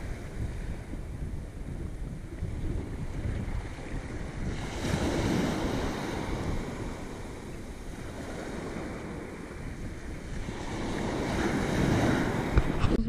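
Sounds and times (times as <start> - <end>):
small waves breaking on sand: 0.0 - 12.8
wind buffeting microphone: 0.0 - 13.0.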